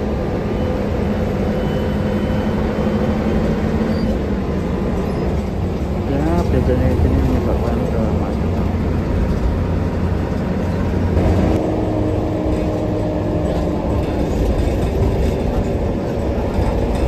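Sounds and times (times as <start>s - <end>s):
bus engine and road rumble: 0.0s - 17.0s
steady engine hum: 0.0s - 17.0s.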